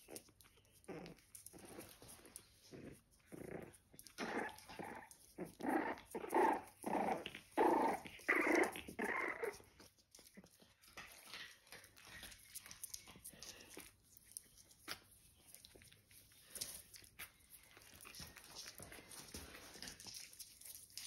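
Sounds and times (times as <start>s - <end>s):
puppies growling: 0.0s - 21.0s.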